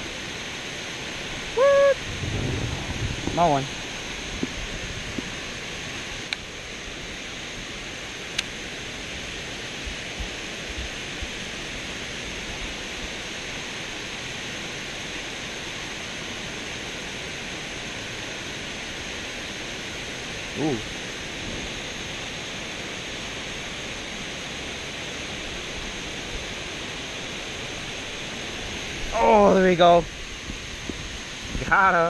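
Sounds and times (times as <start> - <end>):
water rushing over spillway: 0.0 - 32.0.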